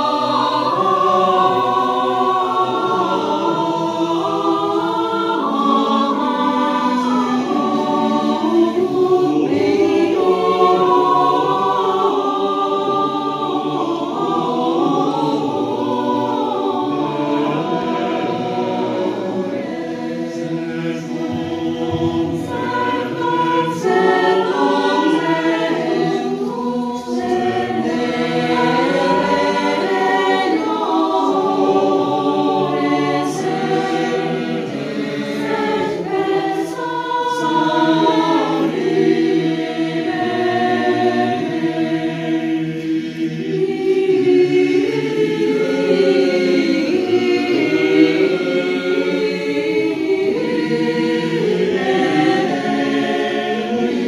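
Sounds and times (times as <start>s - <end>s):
mixed choir singing a cappella: 0.0s - 54.0s.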